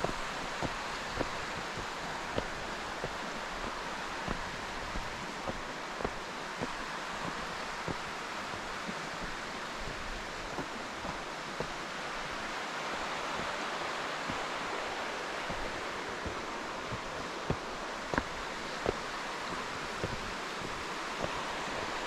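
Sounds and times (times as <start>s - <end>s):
creek flowing: 0.0s - 22.0s
footsteps on dirt path: 0.0s - 22.0s.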